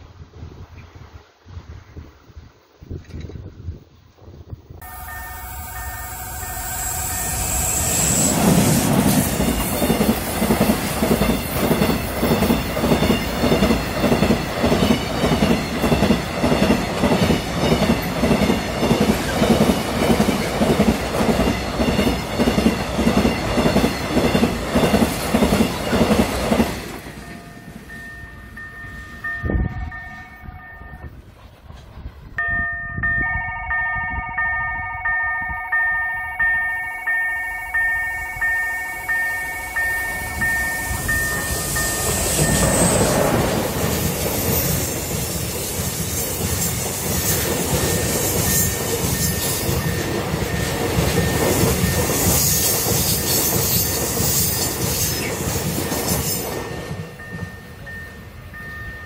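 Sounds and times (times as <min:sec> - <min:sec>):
level-crossing warning bell: 0:04.8 - 0:31.2, 0:32.4 - 0:45.1, 0:47.6 - 0:54.8, 0:55.7 - 0:59.0
freight train wheels clacking: 0:04.8 - 0:32.4, 0:36.4 - 0:59.0.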